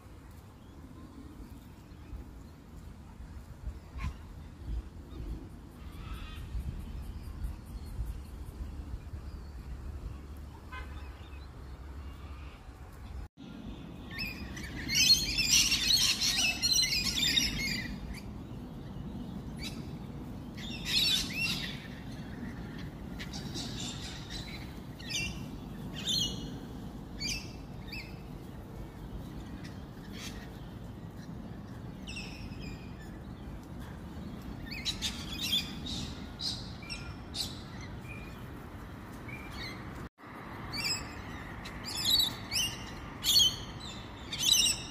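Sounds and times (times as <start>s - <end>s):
birds chirping and twittering: 0.0s - 44.9s.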